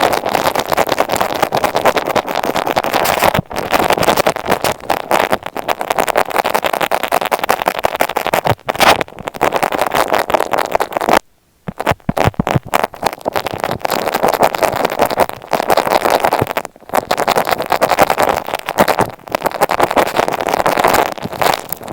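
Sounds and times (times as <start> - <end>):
crackling against a microphone: 0.0 - 21.9.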